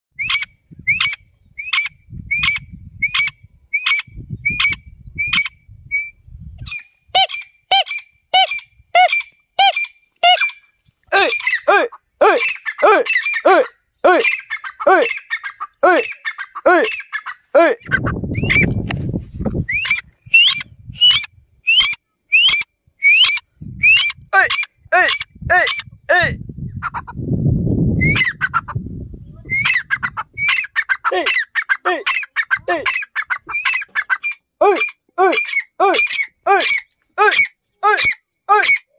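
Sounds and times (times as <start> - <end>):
francolin calling: 0.2 - 27.2, 29.4 - 38.9.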